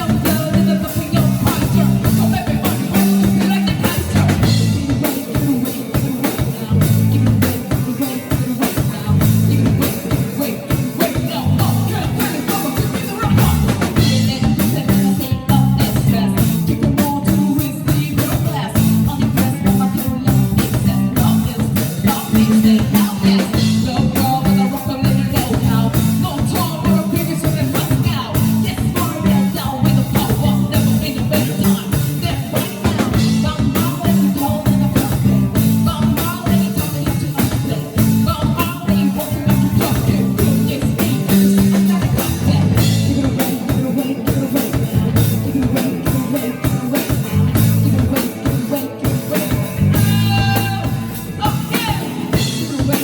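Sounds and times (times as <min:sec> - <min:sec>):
low bass notes: 0:00.0 - 0:05.1, 0:06.6 - 0:07.7, 0:09.0 - 0:09.9, 0:11.3 - 0:43.4, 0:44.8 - 0:45.8, 0:47.1 - 0:48.2, 0:49.6 - 0:52.7
drum kit beat: 0:00.0 - 0:53.0
live band playing: 0:00.0 - 0:53.0.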